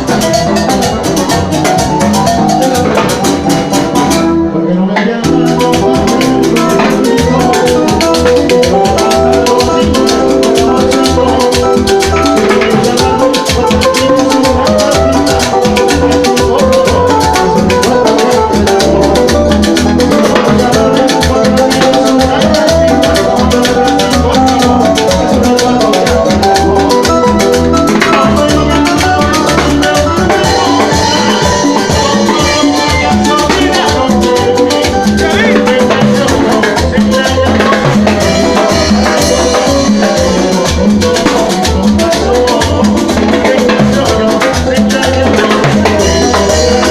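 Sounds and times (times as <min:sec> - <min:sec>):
latin dance band over pa: 0:00.0 - 0:46.9.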